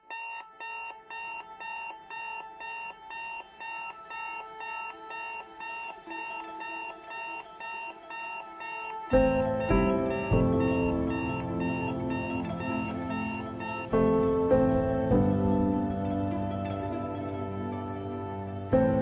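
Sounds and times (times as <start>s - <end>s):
electronic alarm beeping: 0.0s - 15.3s
music with loud chord: 3.5s - 19.0s.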